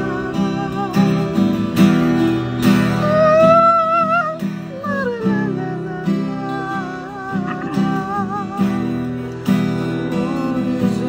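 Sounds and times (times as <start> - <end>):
acoustic guitars strummed: 0.0 - 11.0.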